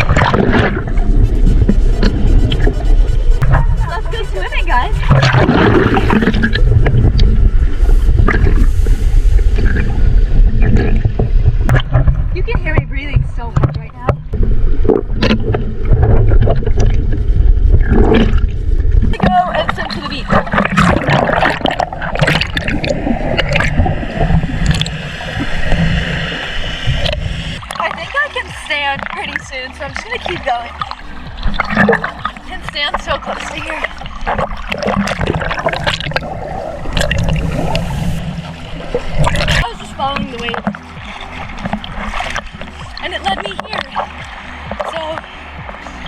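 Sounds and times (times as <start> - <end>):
low rumble: 0.0 - 46.0
water splashing over microphone: 0.0 - 46.0.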